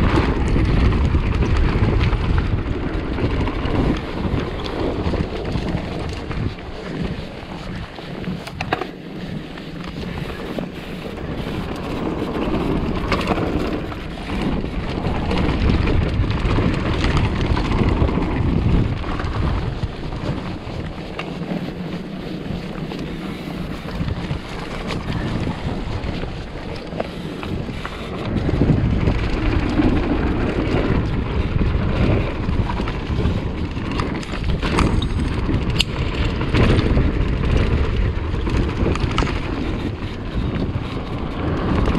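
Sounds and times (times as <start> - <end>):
bike tyre rumble on dirt: 0.0 - 41.9
sharp clicks and rattles: 0.0 - 41.9
wind buffeting microphone: 0.0 - 41.9.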